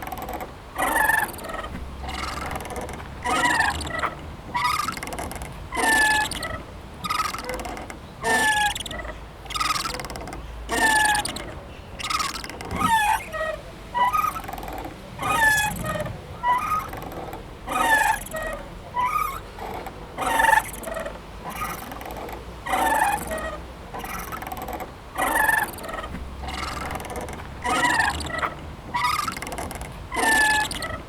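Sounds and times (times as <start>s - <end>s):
playground swing squeaking: 0.0s - 31.0s.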